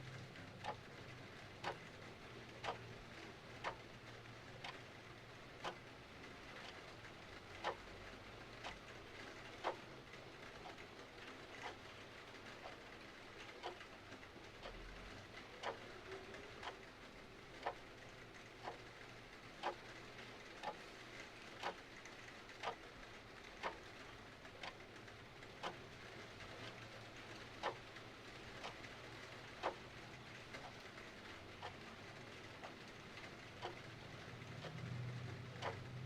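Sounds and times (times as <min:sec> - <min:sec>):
mechanical clock ticking: 0:00.0 - 0:36.0
soft hiss of rain: 0:00.0 - 0:36.0.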